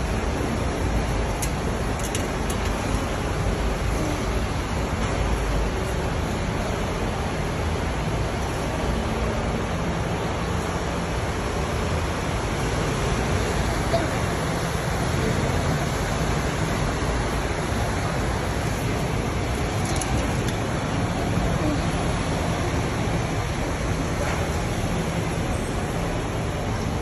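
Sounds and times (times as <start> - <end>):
buses idling rumble: 0.0 - 27.0
continuous hiss: 0.0 - 27.0.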